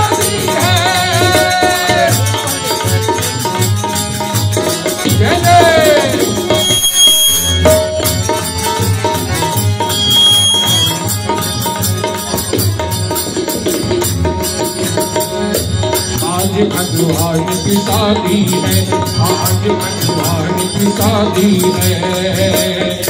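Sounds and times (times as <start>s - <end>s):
devotional music with drum beat: 0.0s - 23.0s.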